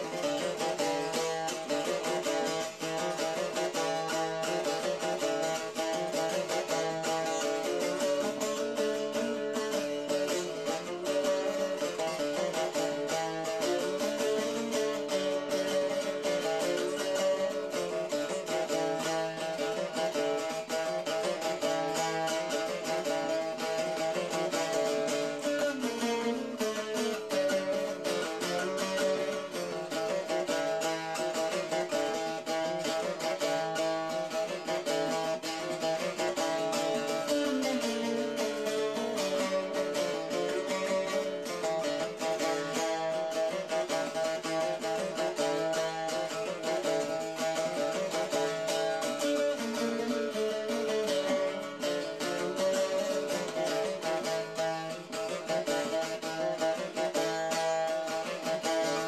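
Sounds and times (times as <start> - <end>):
long-necked lute playing dance tune: 0.0 - 59.0.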